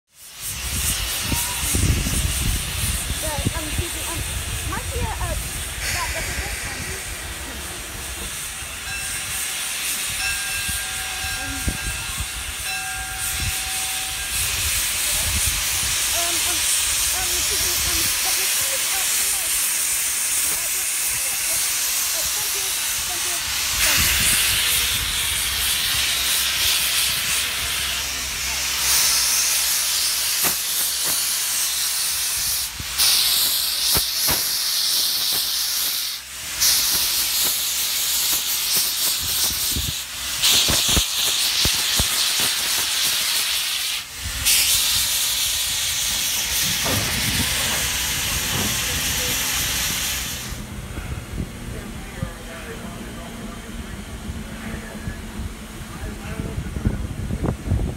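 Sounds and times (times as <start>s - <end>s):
steam locomotive venting steam: 0.1s - 57.9s.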